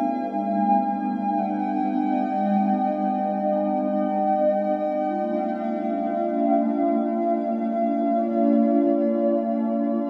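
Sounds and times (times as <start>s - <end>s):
ambient music with sustained tones: 0.0s - 10.0s.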